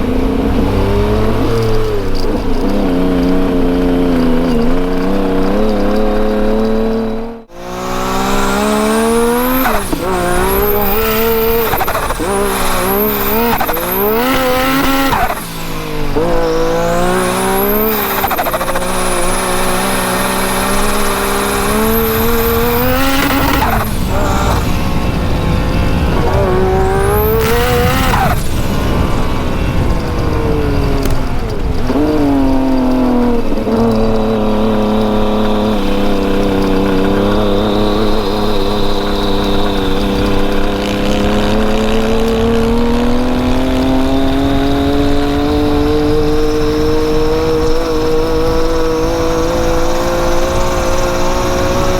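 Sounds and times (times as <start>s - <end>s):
engine revving: 0.0s - 51.9s.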